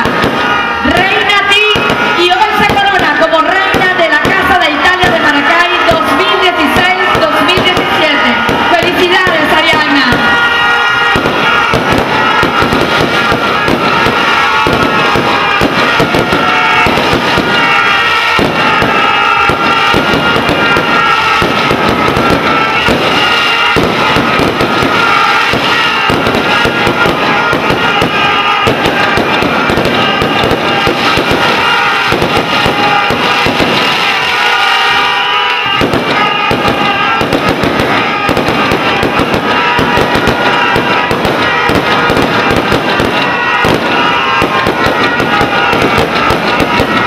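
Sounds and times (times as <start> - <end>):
fireworks crackling: 0.0 - 47.0.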